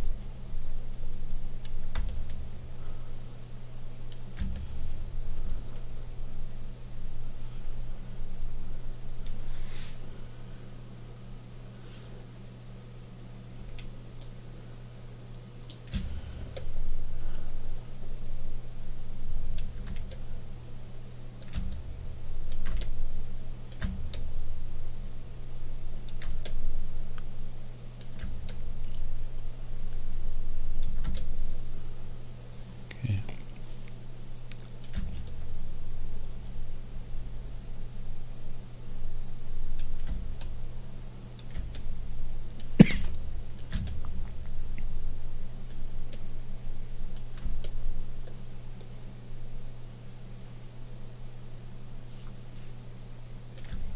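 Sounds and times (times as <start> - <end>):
low electrical hum: 0.0 - 53.9.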